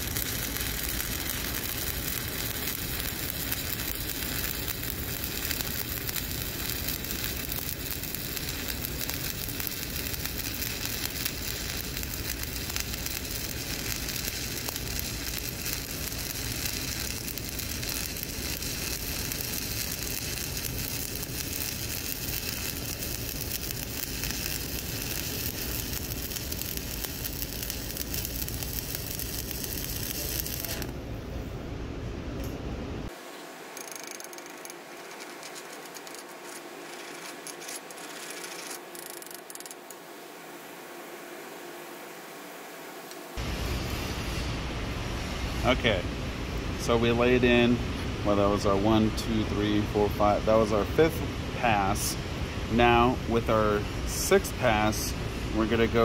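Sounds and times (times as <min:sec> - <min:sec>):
welding arc crackling and sizzling: 0:00.0 - 0:31.1, 0:32.4 - 0:40.0, 0:43.0 - 0:56.0.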